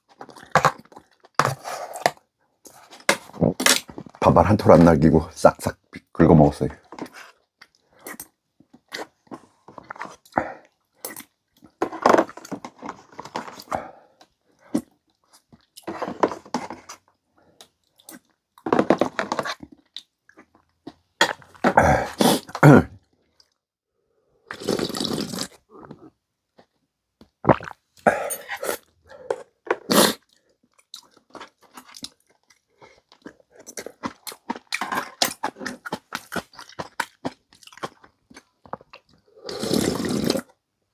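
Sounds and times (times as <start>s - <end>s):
chewing noodle soup: 6.8s - 23.6s, 24.5s - 40.6s.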